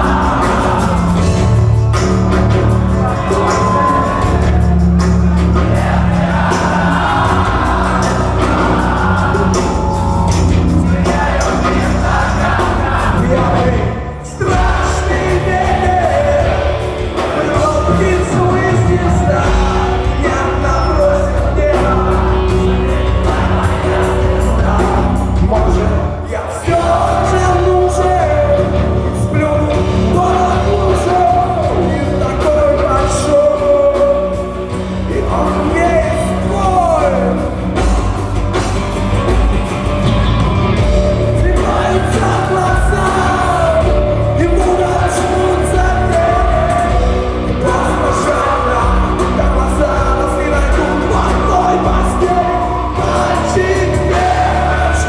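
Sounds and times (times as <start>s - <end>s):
live rock band playing: 0.0s - 55.0s
singer's vocals: 0.0s - 55.0s.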